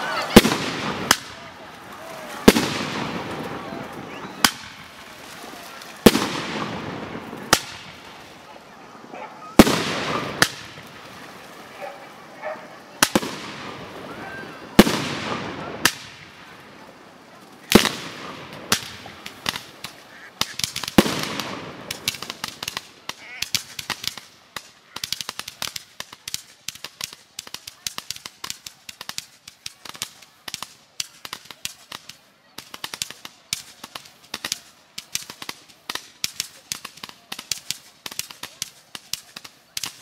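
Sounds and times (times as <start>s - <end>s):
firework crackling pops: 0.0s - 40.0s.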